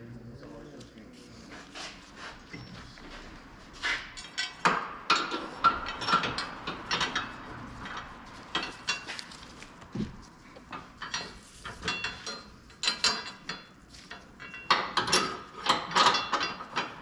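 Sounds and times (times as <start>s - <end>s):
hand tools clicking and clanking: 1.8s - 17.0s.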